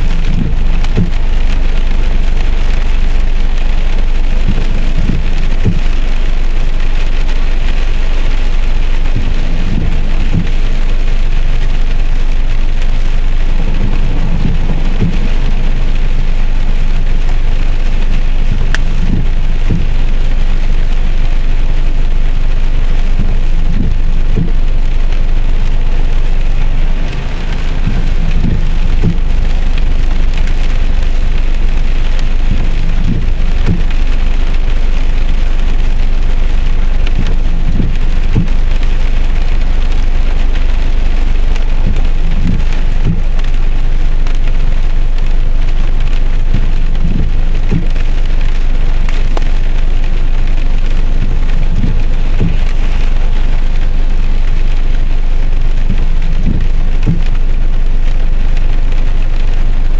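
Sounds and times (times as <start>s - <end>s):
windshield wiper thuds: 0.0s - 50.0s, 50.6s - 55.2s, 55.8s - 57.6s
heavy rain on a car: 0.0s - 59.9s
steady low rumble: 0.0s - 59.9s.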